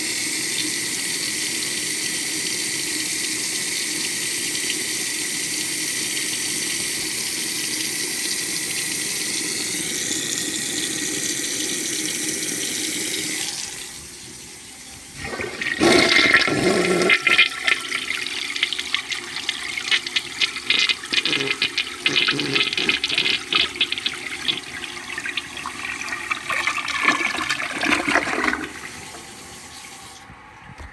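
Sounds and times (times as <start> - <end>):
sink tap running: 0.0 - 30.9
toilet flushing: 0.0 - 30.9.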